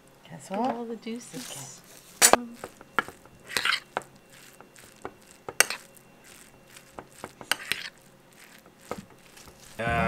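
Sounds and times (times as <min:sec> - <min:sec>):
spoon scraping bowl softly: 0:01.4 - 0:09.8.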